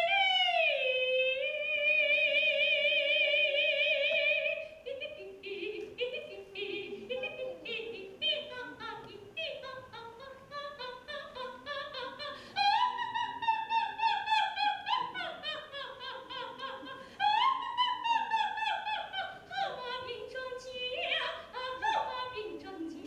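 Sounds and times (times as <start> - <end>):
woman singing operatically: 0.0 - 23.0.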